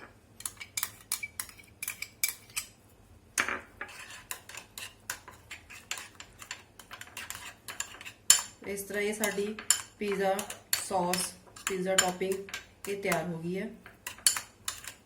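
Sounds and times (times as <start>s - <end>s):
spoon clinking and scraping bowl: 0.0s - 2.8s, 3.5s - 13.2s, 13.8s - 15.0s.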